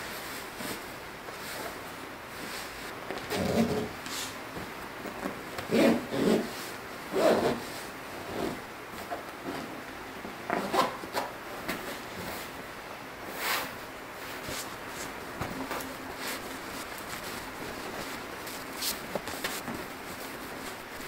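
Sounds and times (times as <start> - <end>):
fabric rustling and rubbing: 0.0 - 9.8, 13.3 - 21.0.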